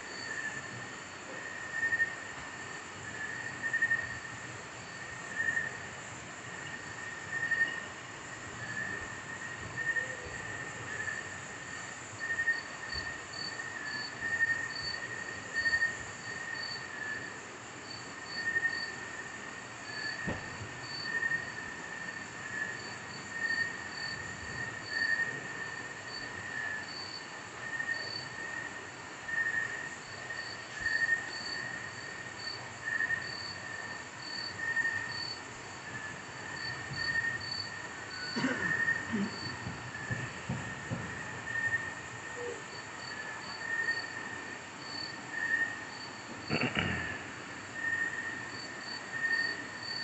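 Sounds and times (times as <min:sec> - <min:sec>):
insect drone: 0:00.0 - 0:50.0.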